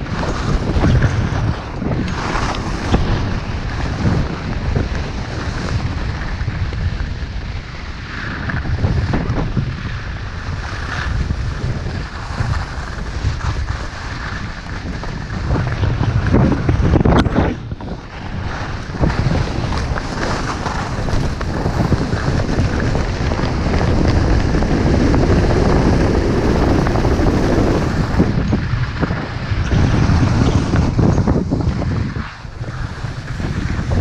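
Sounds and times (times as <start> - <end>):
skis scraping on snow: 0.0 - 34.0
wind buffeting microphone: 0.0 - 34.0.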